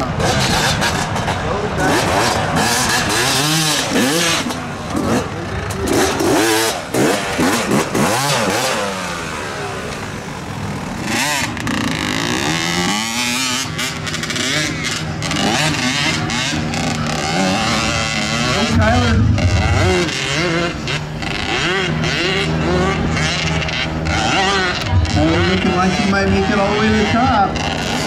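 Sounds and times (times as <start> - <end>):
motorcycle engine revving hard: 0.0 - 28.0.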